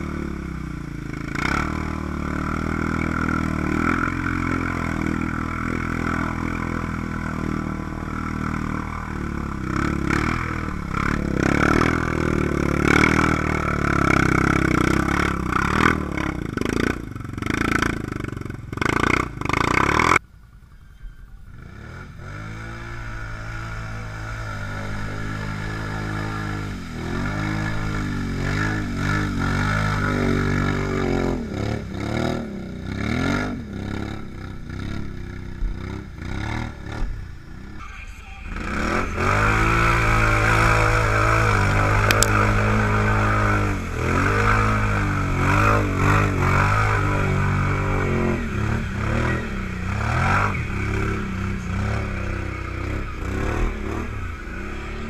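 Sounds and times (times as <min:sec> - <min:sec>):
tyres churning mud and water: 0:00.0 - 0:20.1, 0:21.8 - 0:55.0
quad engine revving: 0:00.0 - 0:20.2, 0:21.5 - 0:55.0.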